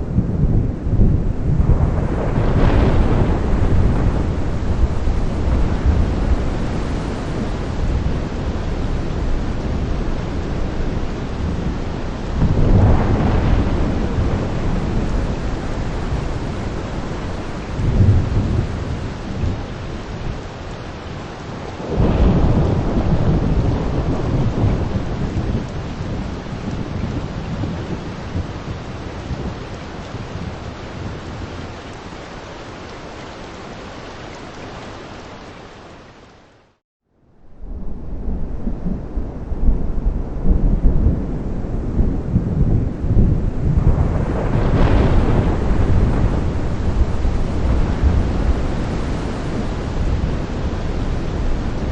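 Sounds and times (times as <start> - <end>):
thunder rumbling: 0.0 - 32.5, 37.3 - 51.9
steady rain: 0.0 - 36.8, 37.4 - 51.9.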